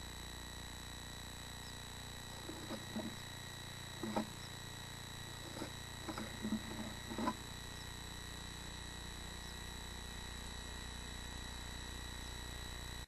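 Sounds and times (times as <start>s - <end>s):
electrical hum: 0.0s - 13.0s
high-pitched whine: 0.0s - 13.0s.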